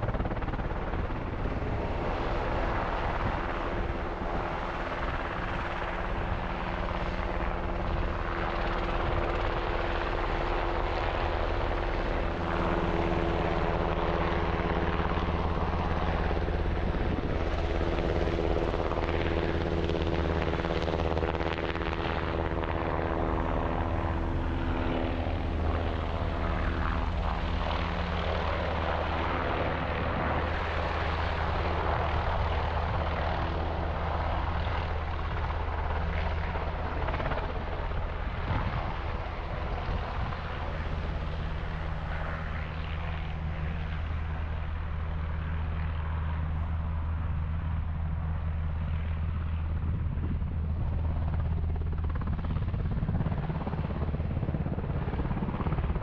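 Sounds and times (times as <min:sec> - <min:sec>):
helicopter engine whine: 0:00.0 - 0:56.0
helicopter rotor hum: 0:00.0 - 0:56.0.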